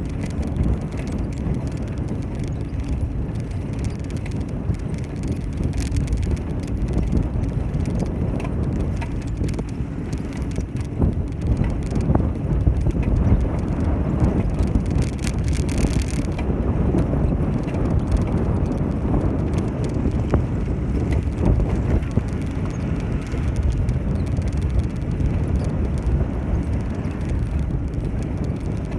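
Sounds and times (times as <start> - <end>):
bicycle tyres rumbling: 0.0 - 28.9
light rattles and clicks: 0.0 - 28.9
wind on microphone: 0.0 - 28.9.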